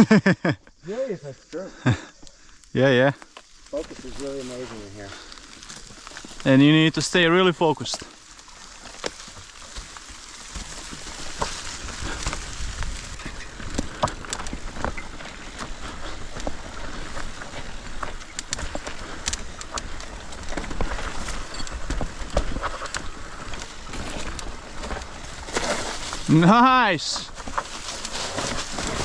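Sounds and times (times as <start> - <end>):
bike tyres crunching on stones: 2.7 - 29.0
bike chain and frame rattling: 3.5 - 29.0.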